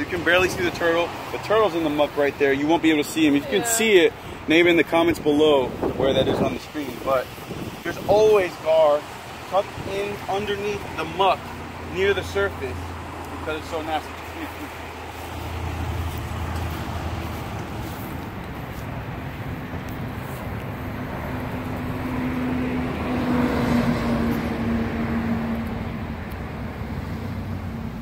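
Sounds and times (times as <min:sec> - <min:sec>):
road traffic passing: 0:00.0 - 0:28.0
vehicle engine hum: 0:00.0 - 0:28.0.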